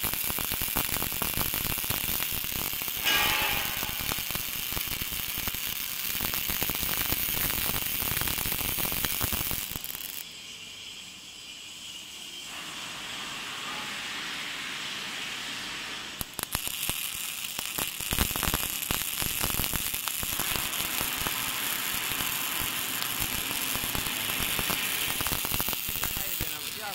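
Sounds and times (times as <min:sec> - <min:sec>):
welding arc crackling: 0:00.0 - 0:10.2, 0:12.0 - 0:26.9
steady hiss: 0:00.0 - 0:26.9.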